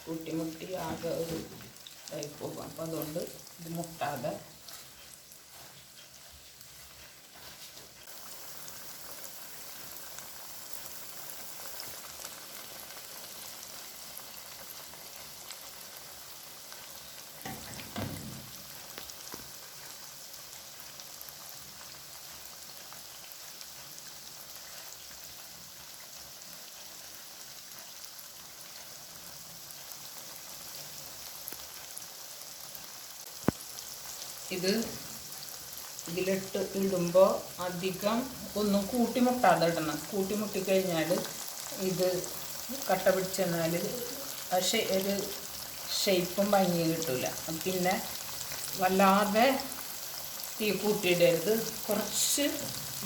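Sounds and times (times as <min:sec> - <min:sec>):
chicken deep-frying in oil: 0:00.0 - 0:53.0.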